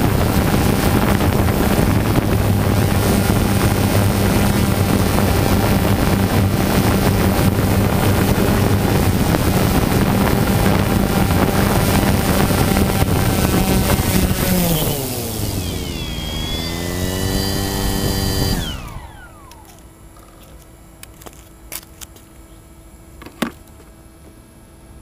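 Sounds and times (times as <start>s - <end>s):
drone motors whining: 0.0s - 20.7s.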